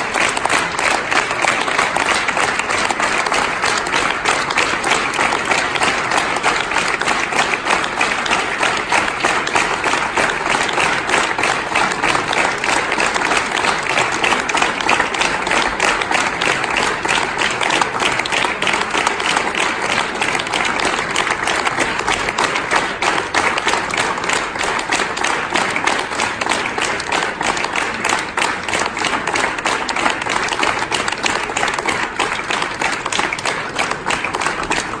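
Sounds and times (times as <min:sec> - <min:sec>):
crowd applauding: 0:00.0 - 0:35.0.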